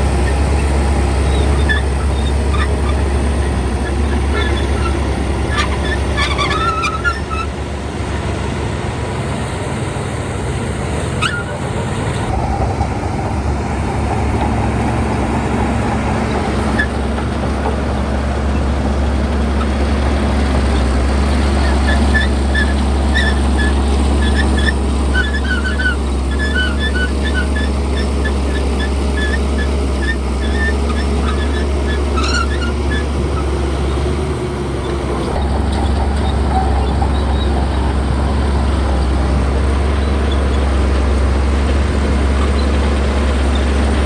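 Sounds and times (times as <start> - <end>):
bulldozer diesel engine droning: 0.0 - 44.0.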